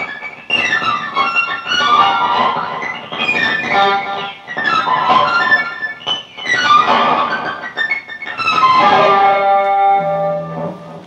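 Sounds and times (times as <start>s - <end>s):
electric guitar imitating birds chirping: 0.0s - 10.6s.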